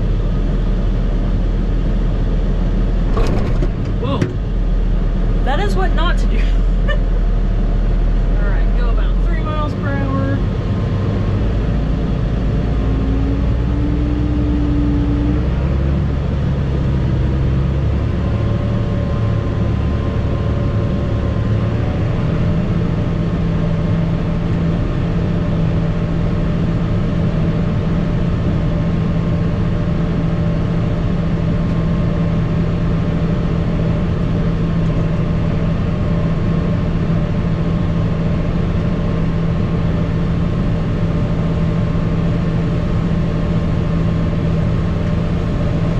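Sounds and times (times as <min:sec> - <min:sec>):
tractor engine: 0:00.0 - 0:45.9.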